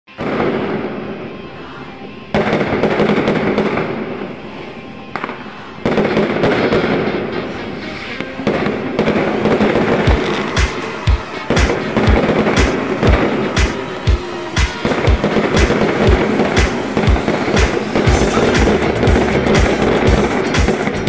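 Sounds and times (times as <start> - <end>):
fireworks crackling: 0.1 - 21.0
deep firework bangs: 2.3 - 4.4, 5.1 - 21.0.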